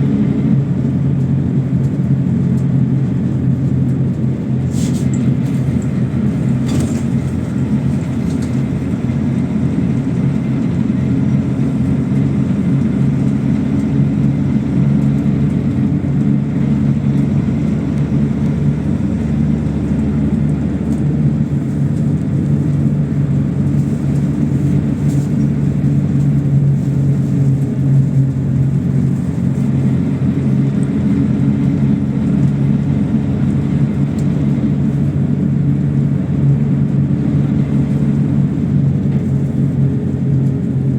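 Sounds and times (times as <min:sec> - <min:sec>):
bus engine drone: 0:00.0 - 0:40.9
road rumble: 0:00.0 - 0:40.9.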